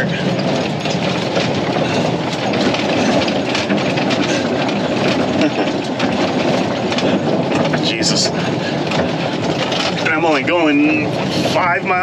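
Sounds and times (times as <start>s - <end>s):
truck engine running low: 0.0s - 12.0s
truck rattling over bumps: 0.0s - 12.0s.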